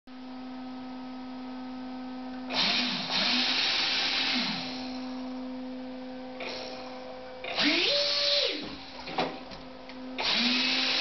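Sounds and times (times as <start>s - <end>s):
electric fan whooshing: 0.3s - 11.0s.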